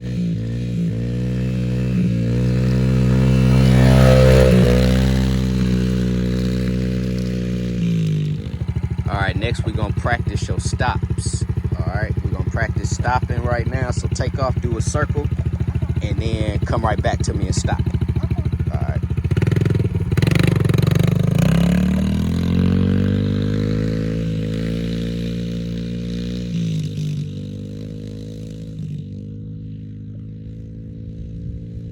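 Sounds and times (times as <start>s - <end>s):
dirt bike engine running: 0.0s - 31.9s.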